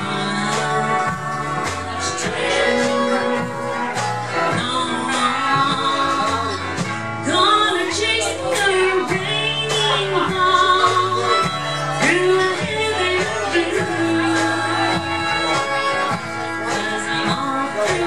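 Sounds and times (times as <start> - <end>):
drums: 0.0 - 18.0
electric guitar: 0.0 - 18.0
steel guitar: 0.0 - 18.0
upright bass: 0.0 - 18.0
woman singing: 0.0 - 18.0.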